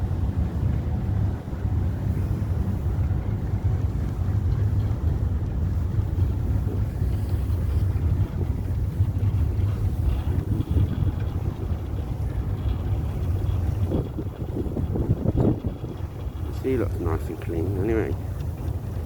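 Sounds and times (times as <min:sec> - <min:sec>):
ferry engine rumbling: 0:00.0 - 0:19.0
wind buffeting microphone: 0:00.0 - 0:19.0.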